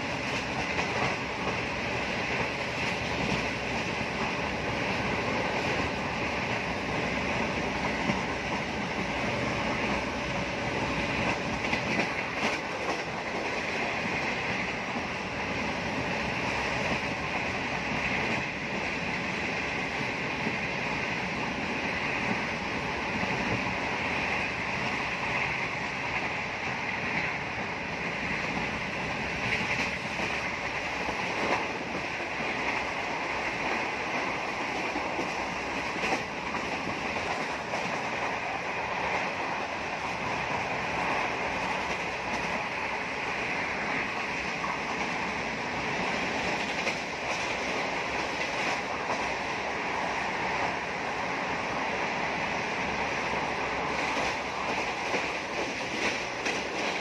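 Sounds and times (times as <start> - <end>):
train rumble and wind rush: 0.0 - 57.0.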